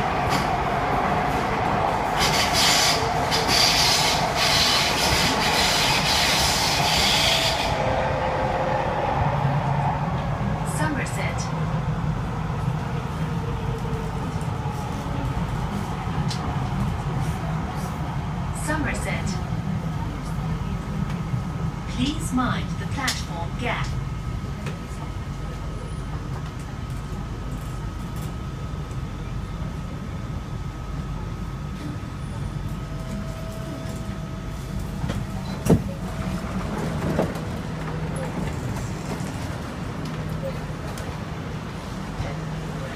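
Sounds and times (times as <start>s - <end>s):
metro train rumbling on track: 0.0s - 42.9s.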